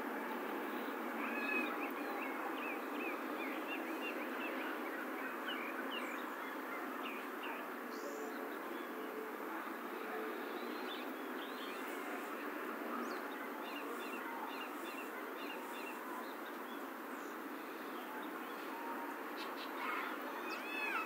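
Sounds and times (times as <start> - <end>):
steady background hiss: 0.0 - 21.0
small birds chirping: 0.5 - 21.0.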